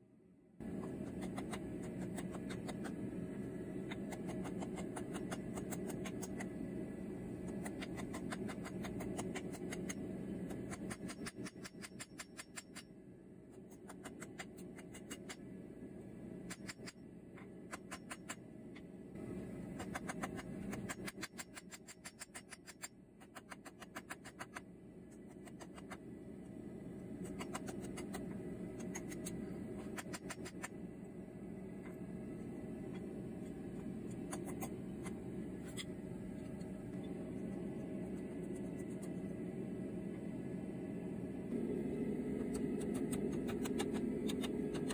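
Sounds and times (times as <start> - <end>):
low hum: 0.0 - 44.9.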